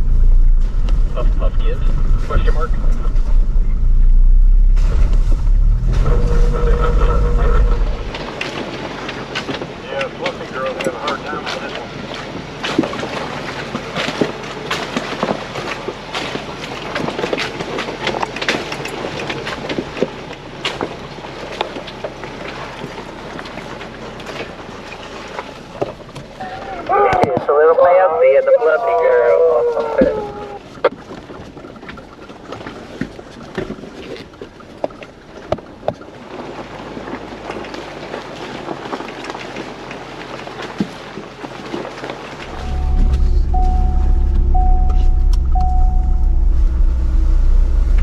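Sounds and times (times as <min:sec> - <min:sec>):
clunks and rattles over rocks: 0:00.0 - 0:44.8
low engine hum: 0:00.0 - 0:48.0.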